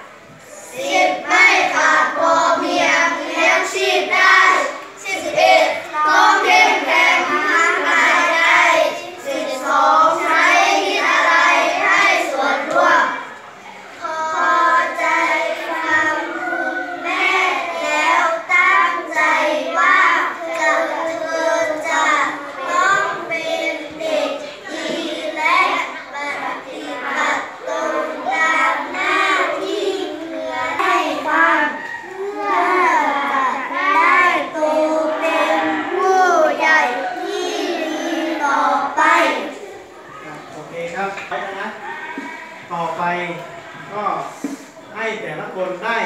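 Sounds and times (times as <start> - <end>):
children chanting in unison: 0.0 - 40.5.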